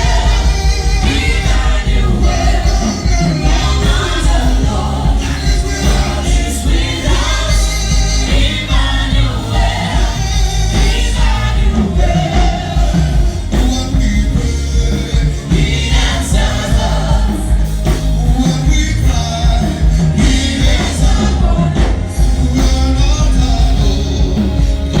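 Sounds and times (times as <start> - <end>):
band with heavy bass: 0.0 - 25.0.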